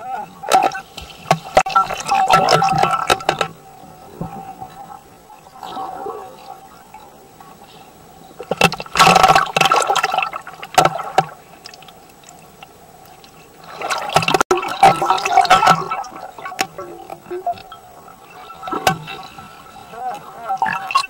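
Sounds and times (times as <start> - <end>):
faint steady tone: 0.0 - 21.0
underwater churning water and bubbling: 0.0 - 21.0.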